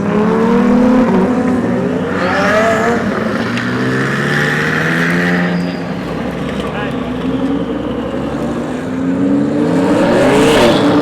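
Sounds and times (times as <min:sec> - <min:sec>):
car engine revving: 0:00.0 - 0:11.0
engine drone: 0:00.0 - 0:11.0.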